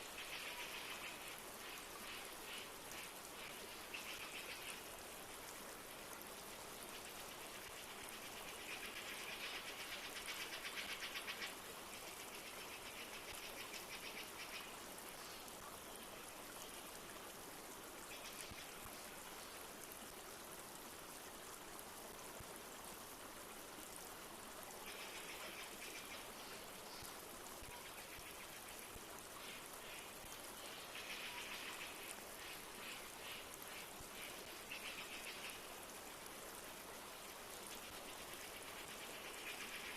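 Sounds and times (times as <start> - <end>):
flowing river: 0.0 - 39.9
light rain: 0.0 - 39.9.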